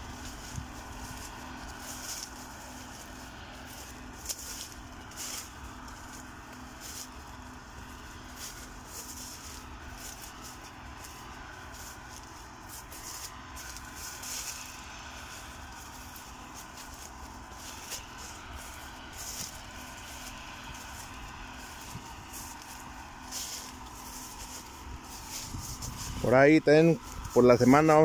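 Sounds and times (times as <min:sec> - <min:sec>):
crackling and rustling stalks: 0:00.0 - 0:28.0
faint constant hum: 0:00.0 - 0:28.0
farm machine engine drone: 0:00.0 - 0:28.0.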